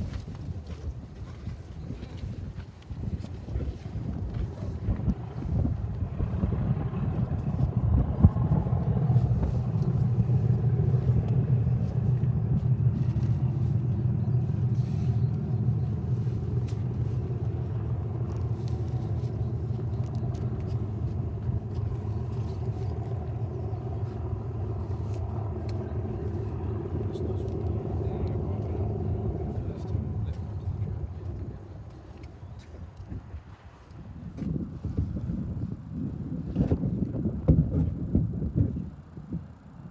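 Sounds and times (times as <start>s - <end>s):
low engine rumble: 0.0s - 39.9s.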